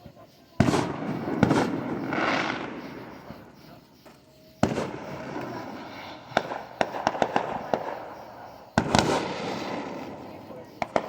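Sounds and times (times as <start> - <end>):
firework crackling pops: 0.6 - 3.1, 4.6 - 11.0
firework bang: 0.6 - 3.5, 4.6 - 11.0.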